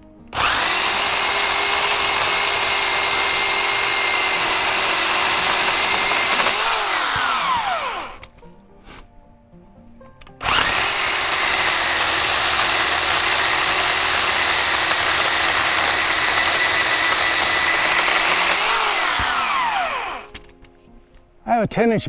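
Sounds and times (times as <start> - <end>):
electric chainsaw motor whining: 0.0 - 8.3, 10.4 - 20.5.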